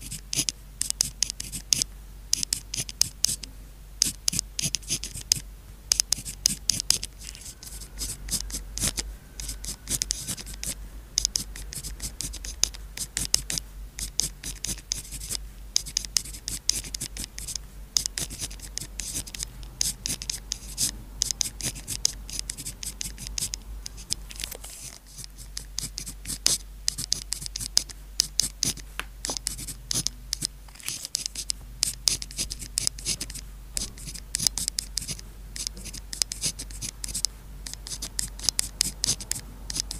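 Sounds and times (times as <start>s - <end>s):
pen scratching on paper: 0.0s - 39.9s.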